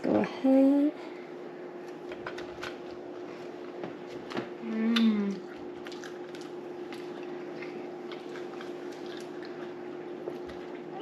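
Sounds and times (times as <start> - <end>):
people chewing crisp cookies: 1.9 - 11.0.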